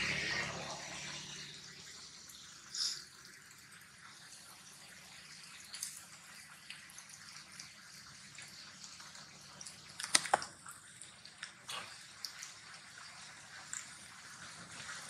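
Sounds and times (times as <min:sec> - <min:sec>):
rainwater dripping: 0:00.0 - 0:15.0.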